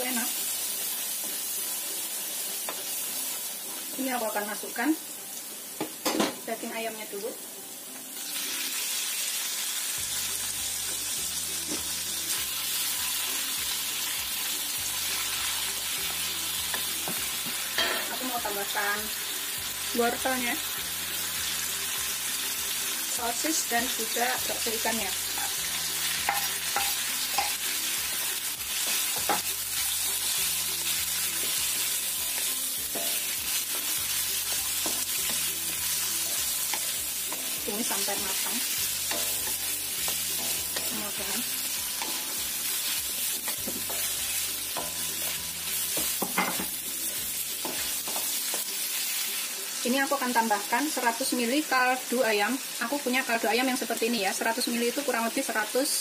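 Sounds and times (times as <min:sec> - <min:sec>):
chicken sizzling in oil: 0:00.0 - 0:56.0.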